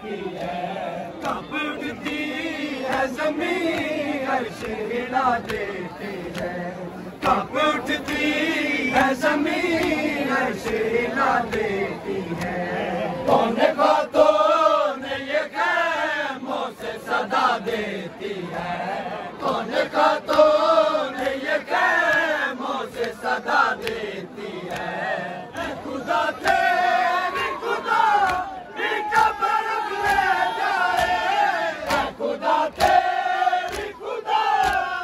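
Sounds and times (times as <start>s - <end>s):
crowd of men chanting: 0.0s - 35.0s.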